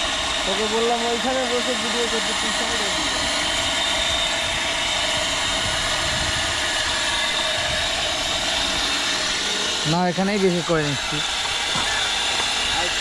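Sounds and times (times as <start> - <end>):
electric water pump running: 0.0 - 13.0
water gushing from pipe: 0.0 - 13.0.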